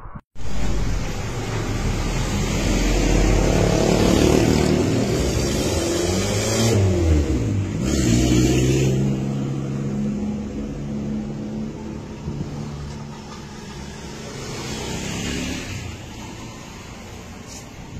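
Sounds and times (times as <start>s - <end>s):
traffic passing: 0.0s - 17.9s.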